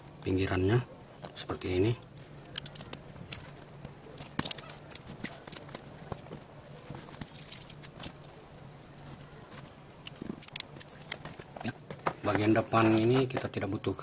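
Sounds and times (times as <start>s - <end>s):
clicks scrapes and snaps: 2.1s - 13.4s.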